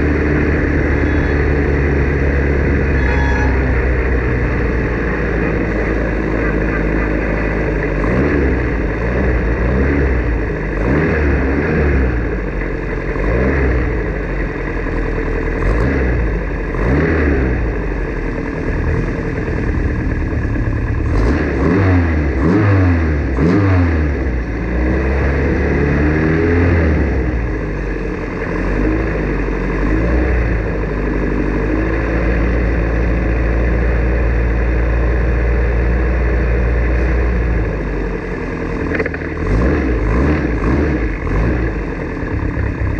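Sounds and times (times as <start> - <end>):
racing car engine running hard: 0.0 - 42.9.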